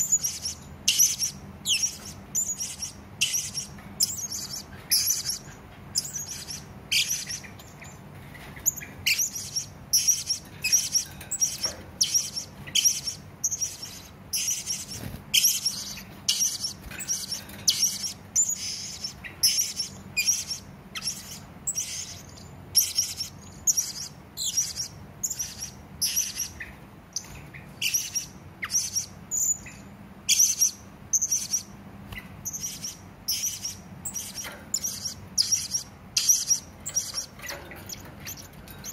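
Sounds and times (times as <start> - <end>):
parrot high-pitched chirps: 0.0 - 8.0, 8.6 - 31.8, 32.4 - 38.9.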